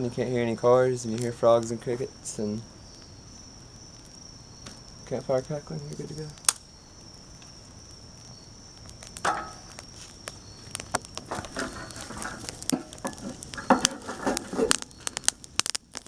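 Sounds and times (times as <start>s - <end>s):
campfire crackling and popping: 0.0s - 16.0s
crickets trilling: 0.0s - 16.0s.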